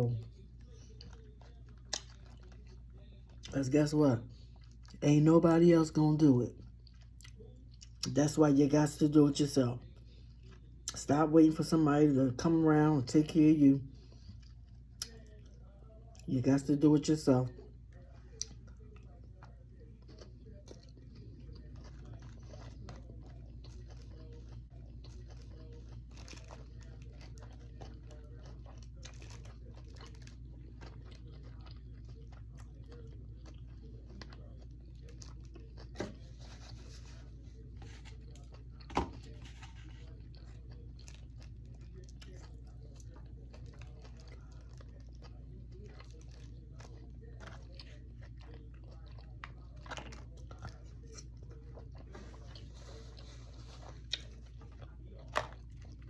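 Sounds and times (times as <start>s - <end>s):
chewing and crunching food: 0.0s - 56.0s.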